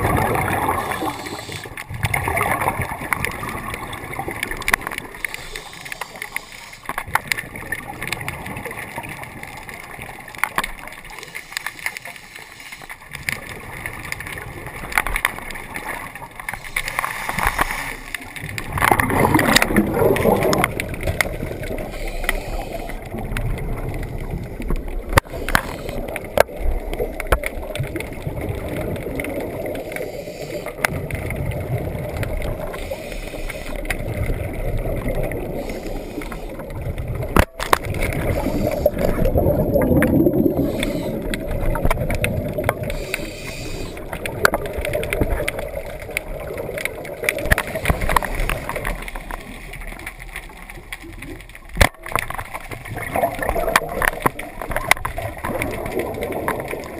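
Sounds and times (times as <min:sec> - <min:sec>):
underwater regulator bubbles gurgling: 0:00.0 - 0:56.9.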